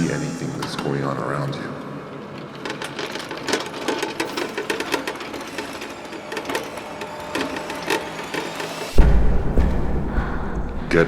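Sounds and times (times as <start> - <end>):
rapid clicking and rattling: 0.6 - 9.7.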